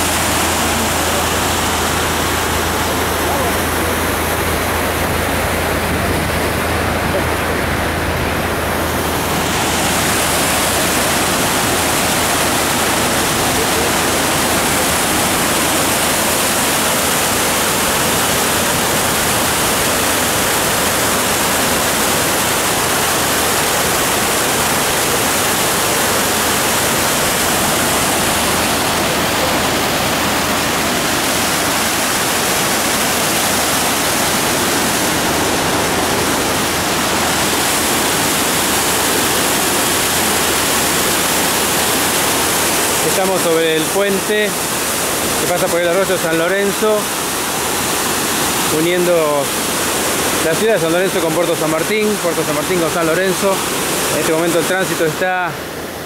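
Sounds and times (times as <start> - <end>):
flooded creek rushing: 0.0 - 56.0.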